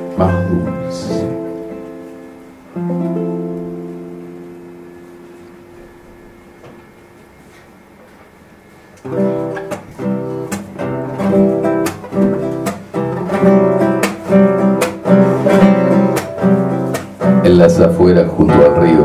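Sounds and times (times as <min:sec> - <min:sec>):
acoustic guitar strumming: 0:00.0 - 0:07.6, 0:09.0 - 0:19.0.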